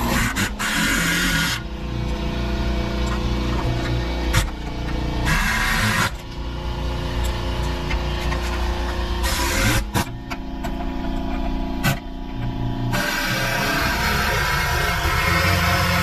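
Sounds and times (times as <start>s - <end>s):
power tool running in bursts: 0.0s - 10.2s, 12.9s - 16.0s
steady mechanical hum: 0.0s - 16.0s.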